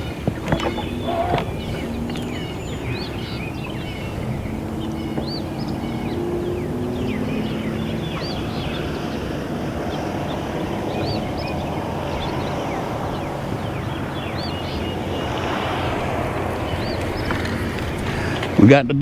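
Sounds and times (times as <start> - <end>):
birds chirping: 0.0 - 19.0
boat motor humming: 0.0 - 19.0
rushing noise: 0.0 - 19.0
water noise: 0.0 - 19.0
wind: 0.0 - 19.0.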